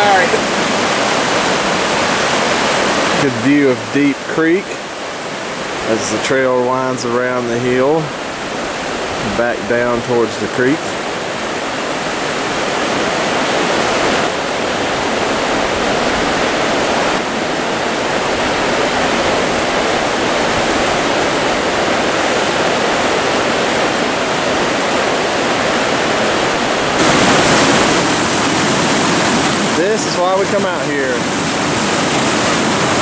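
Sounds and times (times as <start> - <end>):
mountain creek rushing: 0.0 - 33.0.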